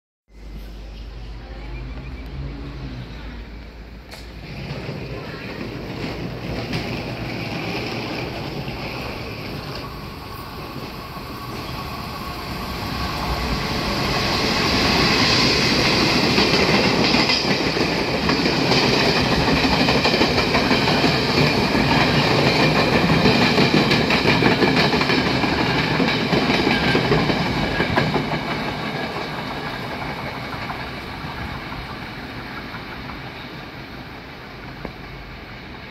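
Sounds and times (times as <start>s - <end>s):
passenger train passing: 0.4s - 35.9s
train wheels clattering over rails: 4.1s - 11.8s, 12.9s - 35.2s.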